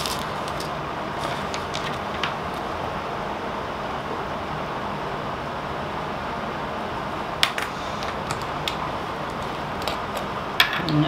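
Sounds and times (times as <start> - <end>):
fan-like room hiss: 0.0 - 11.0.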